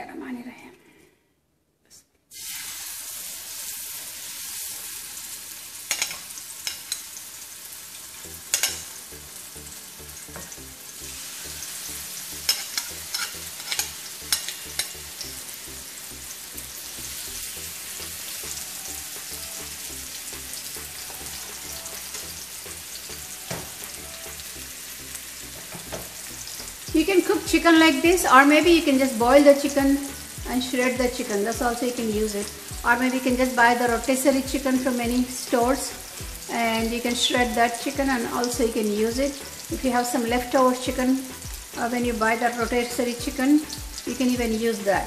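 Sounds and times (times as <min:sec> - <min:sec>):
chicken sizzling in hot oil: 0:02.3 - 0:45.0.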